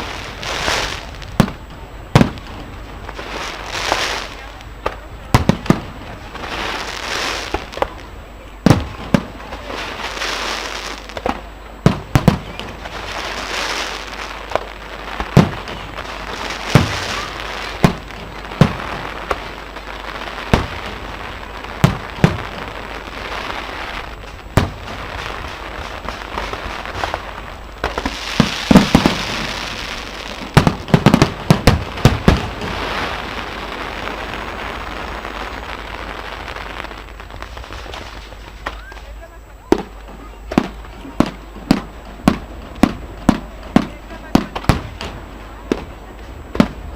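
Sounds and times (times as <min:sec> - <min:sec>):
fireworks bangs: 0:00.0 - 0:46.9
fireworks crackling hiss: 0:00.0 - 0:46.9.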